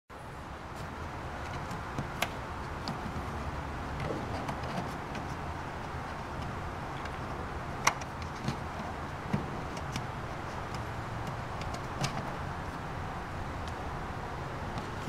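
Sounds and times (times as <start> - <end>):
steady background hiss: 0.1 - 15.0
light clicks and rubs: 0.8 - 12.9.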